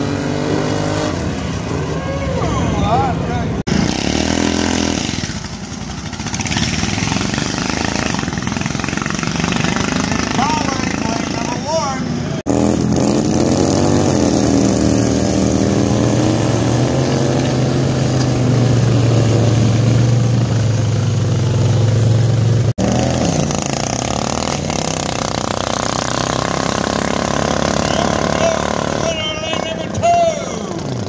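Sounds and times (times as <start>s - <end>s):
lawn tractor engines running hard: 0.0s - 31.0s.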